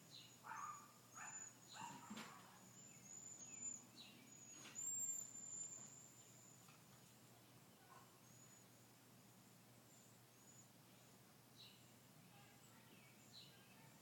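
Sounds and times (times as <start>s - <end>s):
faint bird chirps: 0.0s - 6.8s, 7.4s - 8.8s, 9.8s - 14.0s.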